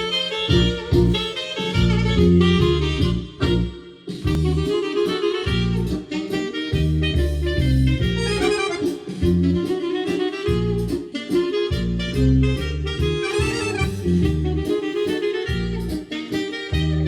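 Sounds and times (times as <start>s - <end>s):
instrumental mazurka: 0.0s - 17.0s.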